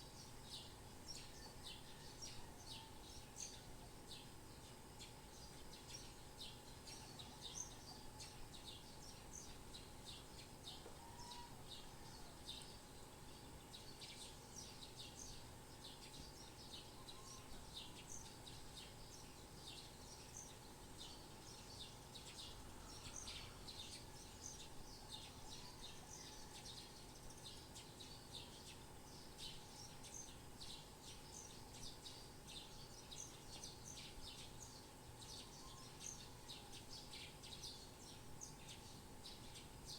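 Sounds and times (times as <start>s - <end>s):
faint birds chirping: 0.0s - 39.9s
faint steady background hum: 0.0s - 39.9s.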